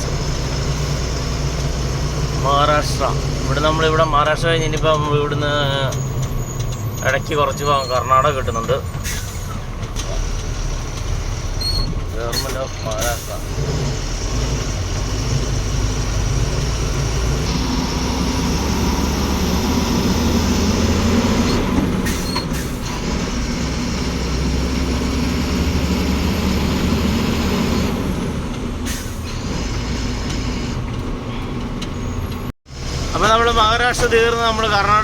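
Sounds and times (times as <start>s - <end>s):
road and wind noise: 0.0s - 35.0s
truck engine drone: 0.0s - 35.0s.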